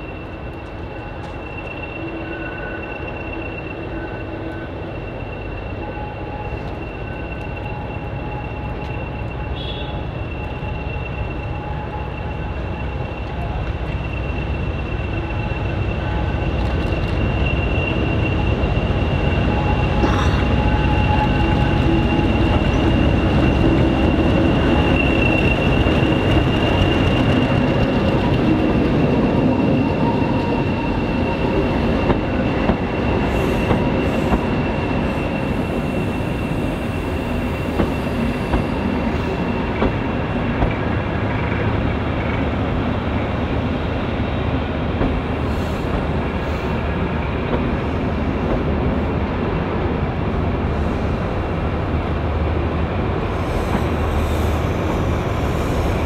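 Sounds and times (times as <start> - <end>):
high wheel squeal: 0.0 - 48.2
diesel locomotive rumble: 0.0 - 56.0.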